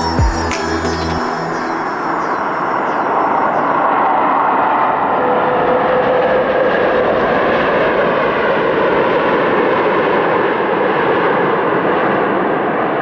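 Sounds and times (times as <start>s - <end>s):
faint jet whine: 0.0s - 13.0s
jet engines roaring at takeoff: 2.1s - 13.0s.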